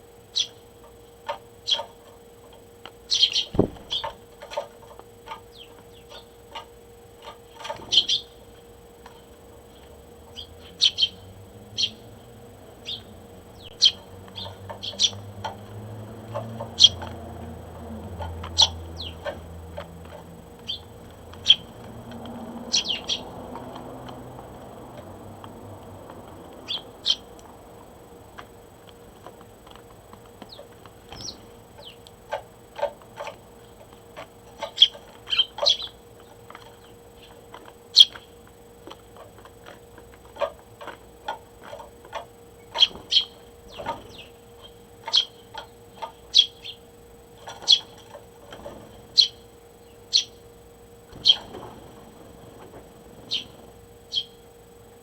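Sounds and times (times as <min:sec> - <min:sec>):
sparrows chirping: 0:00.0 - 0:24.7, 0:26.6 - 0:27.5, 0:28.3 - 0:54.7.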